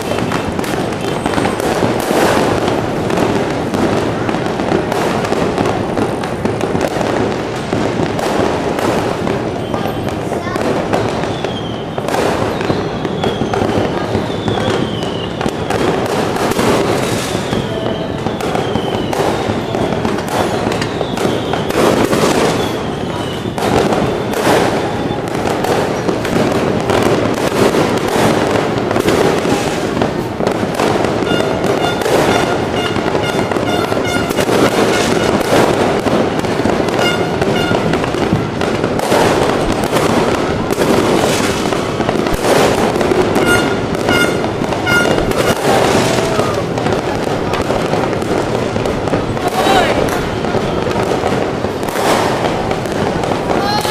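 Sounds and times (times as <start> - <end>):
firecrackers cracks and bangs: 0.0 - 53.9.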